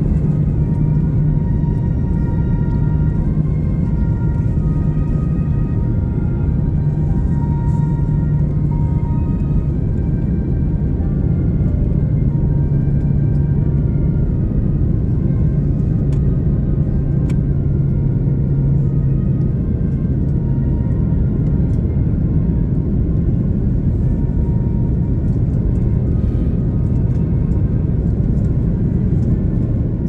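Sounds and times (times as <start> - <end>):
airliner cabin rumble: 0.0 - 30.0
steady hum: 0.0 - 30.0.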